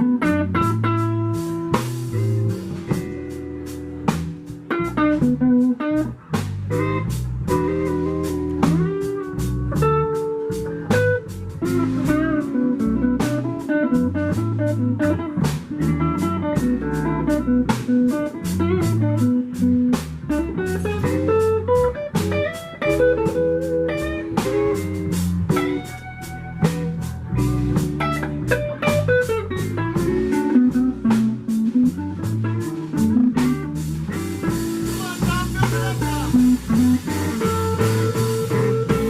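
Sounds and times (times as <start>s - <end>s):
drum kit steady beat: 0.0s - 39.0s
electric guitar with bent notes: 0.0s - 39.0s.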